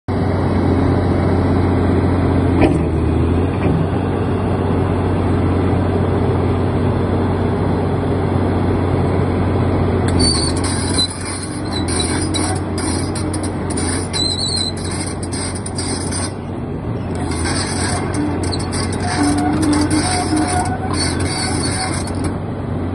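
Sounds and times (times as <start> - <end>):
diesel engine idling: 0.2 - 22.9.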